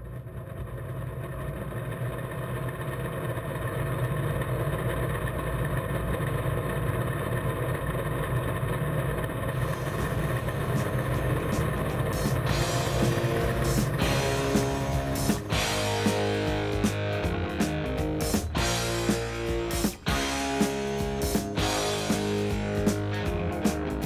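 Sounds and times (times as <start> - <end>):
heavy machinery engine running: 3.6 - 24.0.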